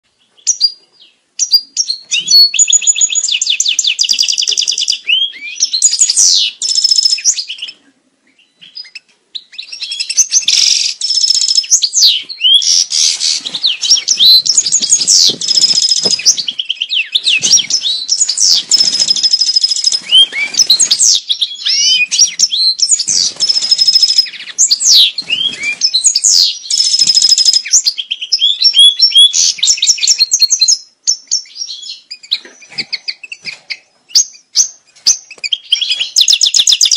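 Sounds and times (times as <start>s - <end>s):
goldfinch singing: 0.4s - 36.9s.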